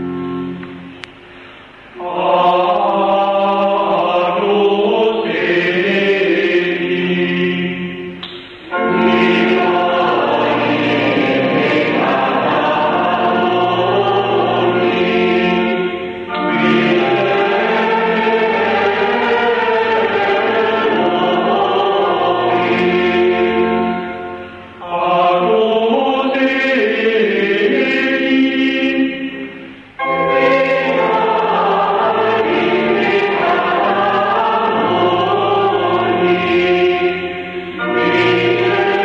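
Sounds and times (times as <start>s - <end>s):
men's choir chanting: 2.0s - 7.9s, 8.8s - 23.6s, 24.8s - 29.3s, 30.3s - 39.0s.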